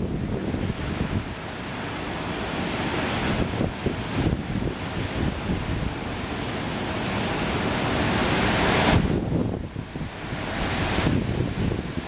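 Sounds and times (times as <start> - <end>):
ocean surf rushing: 0.0 - 12.0
wind buffeting microphone: 0.0 - 12.0.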